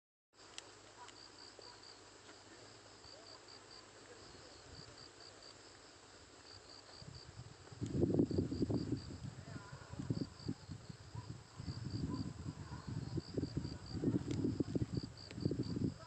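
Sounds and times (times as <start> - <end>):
insect chirping: 0.4 - 16.0
quiet hiss: 0.4 - 16.0.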